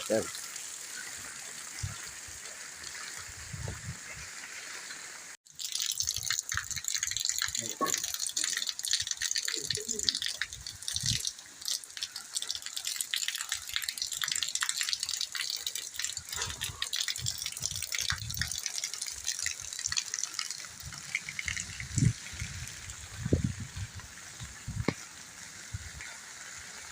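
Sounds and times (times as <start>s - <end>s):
rain on a wet street: 0.0s - 26.9s.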